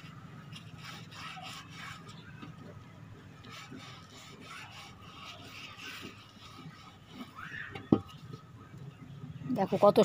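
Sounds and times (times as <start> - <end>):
cloth rubbing on clay pot: 0.0 - 2.4, 3.4 - 8.4, 9.3 - 10.0.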